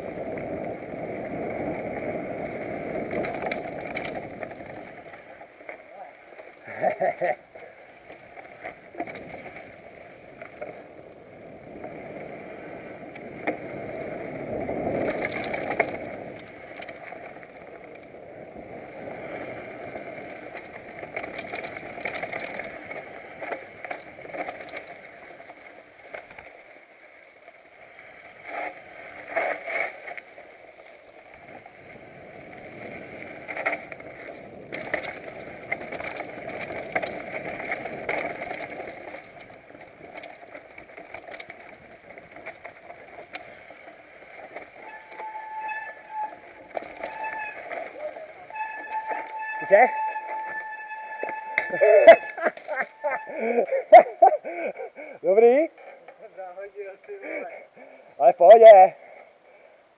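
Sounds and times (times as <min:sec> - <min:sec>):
bike knocking and rattling: 0:00.0 - 0:57.6
bike tyres rushing over dirt: 0:00.0 - 0:59.8.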